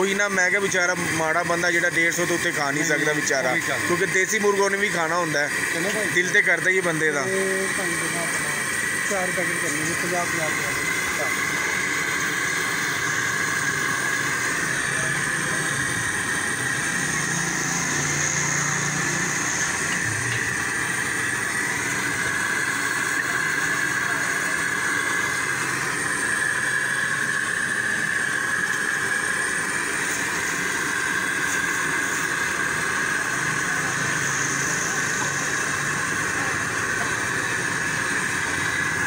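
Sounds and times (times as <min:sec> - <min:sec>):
engine drone with hiss: 0:00.0 - 0:39.0.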